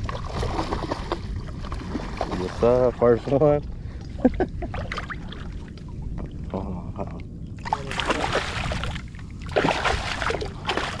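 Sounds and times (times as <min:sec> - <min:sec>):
shallow water sloshing and splashing: 0:00.0 - 0:06.5, 0:07.6 - 0:11.0.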